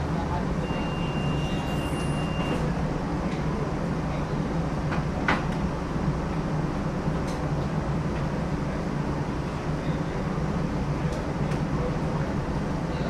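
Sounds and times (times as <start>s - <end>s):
streetcar rumbling on rails: 0.0s - 13.0s.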